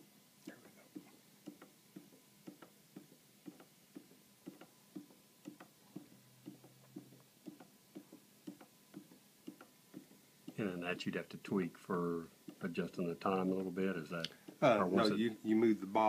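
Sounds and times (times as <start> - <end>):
pendulum clock ticking: 0.9 - 14.8.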